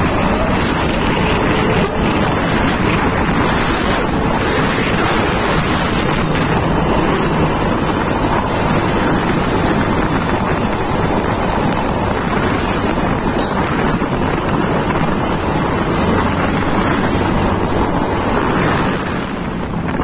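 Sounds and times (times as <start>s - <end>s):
trucks driving past: 0.0s - 20.0s
wind buffeting microphone: 0.0s - 20.0s.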